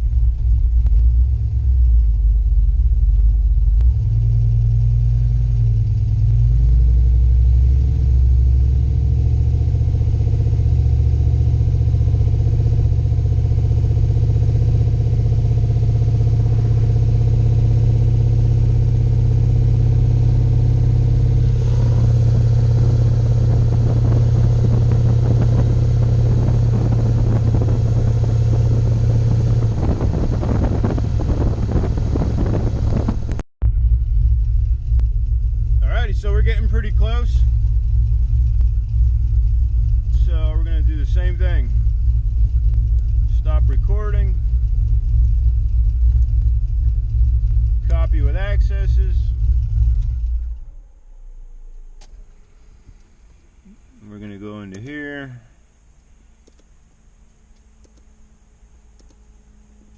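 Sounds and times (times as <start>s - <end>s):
pickup truck engine droning: 0.0s - 59.9s.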